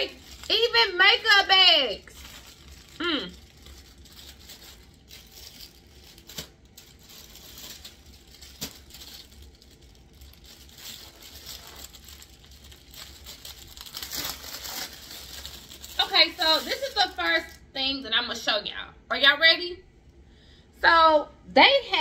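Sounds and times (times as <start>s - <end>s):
packaging crinkling and rustling: 0.0s - 17.6s.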